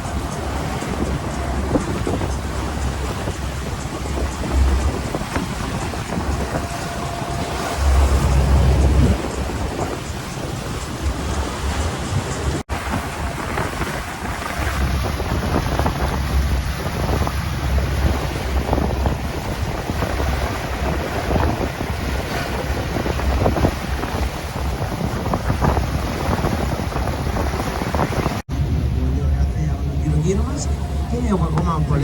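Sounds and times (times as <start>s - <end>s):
boat engine rumble: 0.0s - 32.0s
sea water rushing: 0.0s - 32.0s
wind buffeting microphone: 0.0s - 32.0s.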